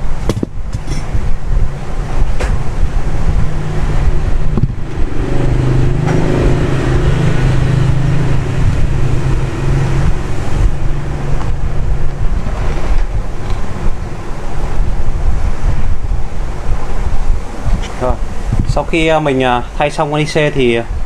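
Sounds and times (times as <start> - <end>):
hot-air gun rushing air: 0.0 - 21.0.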